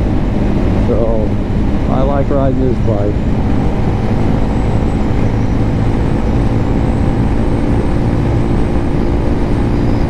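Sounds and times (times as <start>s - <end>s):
motorcycle engine running: 0.0s - 10.0s
road noise: 0.0s - 10.0s
wind noise: 0.0s - 10.0s.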